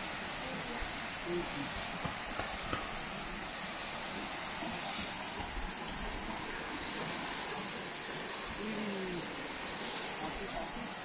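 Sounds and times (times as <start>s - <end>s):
forest ambience hiss: 0.0s - 11.0s.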